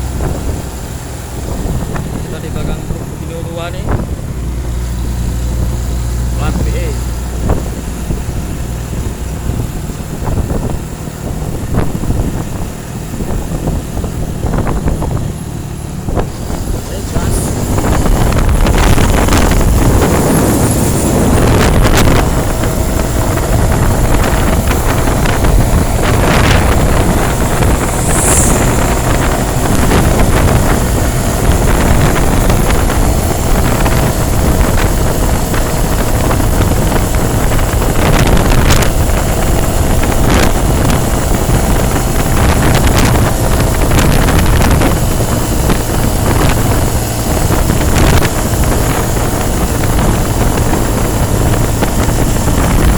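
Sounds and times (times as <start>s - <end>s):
vehicle rumble on highway: 0.0s - 52.9s
wind buffeting microphone: 0.0s - 52.9s.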